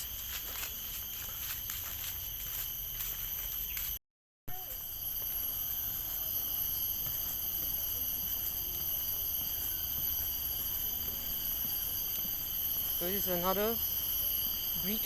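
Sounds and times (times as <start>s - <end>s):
insects droning chorus: 0.0s - 15.0s.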